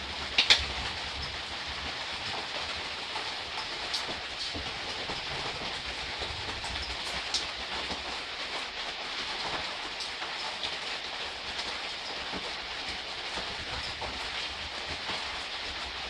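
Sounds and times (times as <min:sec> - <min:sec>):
sharp raindrop ticks: 0:00.0 - 0:16.0
soft rain falling: 0:00.0 - 0:16.0.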